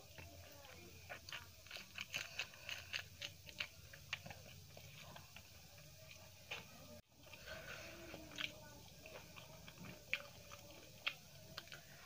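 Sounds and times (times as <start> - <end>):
close chewing with wet clicks: 0.0 - 12.0.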